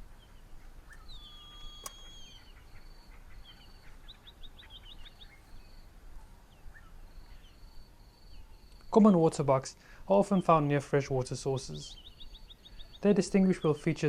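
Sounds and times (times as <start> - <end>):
birds whistling and chirping: 0.0 - 9.2, 11.6 - 14.0.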